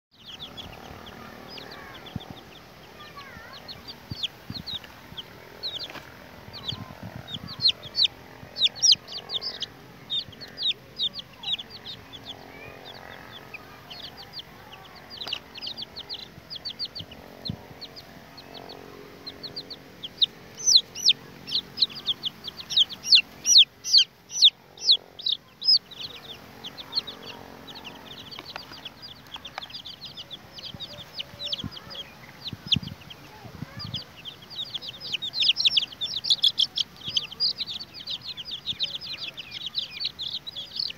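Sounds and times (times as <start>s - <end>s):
chicks peeping: 0.1s - 40.9s.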